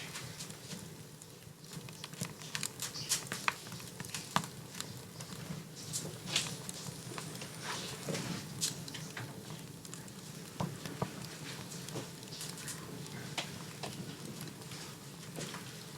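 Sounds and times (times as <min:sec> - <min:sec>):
fire crackling and popping: 0:00.2 - 0:15.9.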